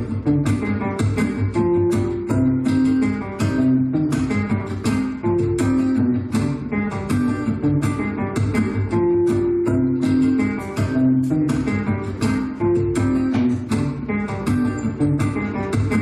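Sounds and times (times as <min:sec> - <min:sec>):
acoustic guitar playing a tune: 0:00.0 - 0:16.0.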